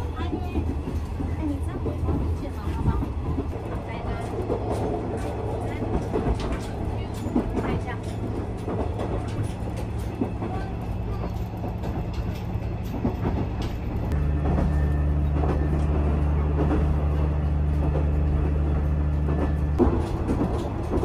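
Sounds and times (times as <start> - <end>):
diesel railcar drone: 0.0 - 21.0.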